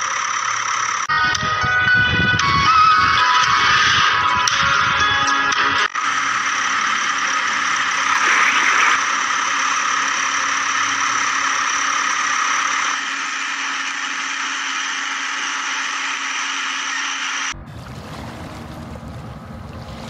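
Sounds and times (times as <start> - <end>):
motor running: 0.0 - 20.0.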